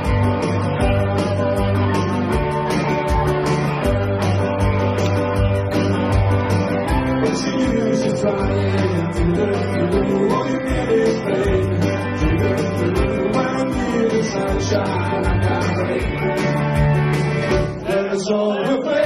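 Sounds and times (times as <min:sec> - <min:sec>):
steady drum beat: 0:00.0 - 0:17.8
electric guitar: 0:00.0 - 0:18.2
bass guitar: 0:00.0 - 0:19.0
keyboard: 0:00.0 - 0:19.0.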